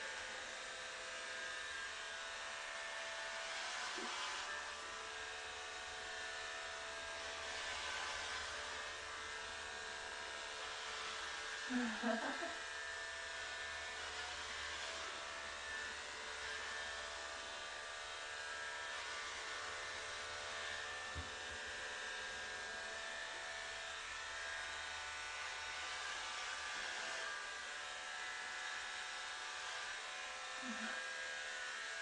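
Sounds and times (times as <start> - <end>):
electric hair clippers running: 0.0 - 32.0.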